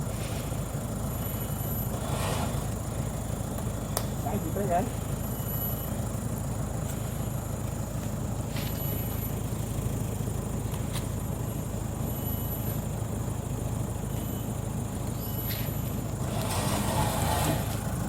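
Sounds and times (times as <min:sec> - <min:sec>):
motor rumbling: 0:00.0 - 0:18.0.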